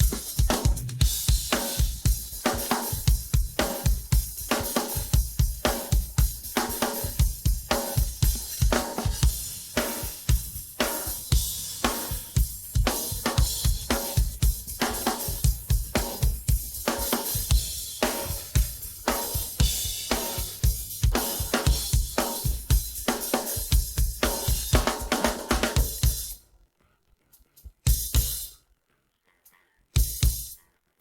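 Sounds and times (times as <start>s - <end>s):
snare drum: 0.0s - 26.2s
kick drum: 0.0s - 26.3s, 27.9s - 28.4s, 30.0s - 30.6s
hi-hat: 0.0s - 26.4s, 30.0s - 30.6s.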